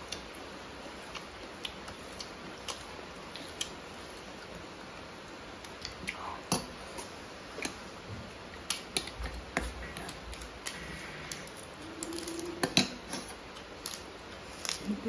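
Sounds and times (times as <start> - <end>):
soft eating sounds: 0.0 - 15.0.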